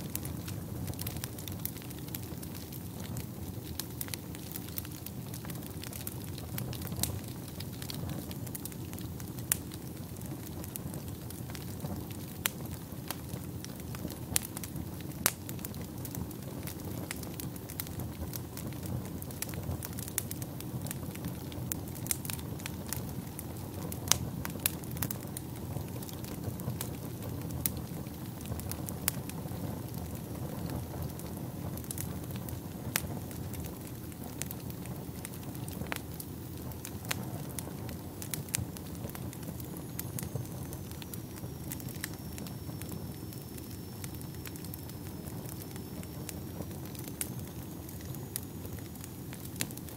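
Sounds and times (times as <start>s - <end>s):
fire crackling and popping: 0.0s - 49.9s
low rumble of flames: 0.0s - 49.9s.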